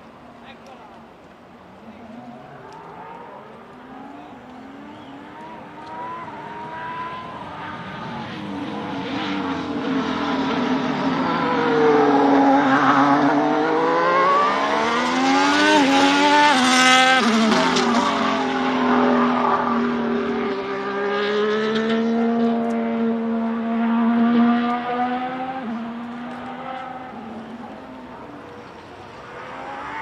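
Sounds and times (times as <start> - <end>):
racing car engine: 1.8 - 30.0.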